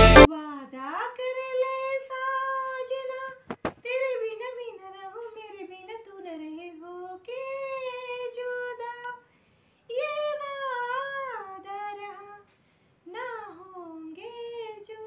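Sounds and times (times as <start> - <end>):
woman singing unaccompanied: 0.2 - 9.3, 9.9 - 12.5, 13.1 - 15.0.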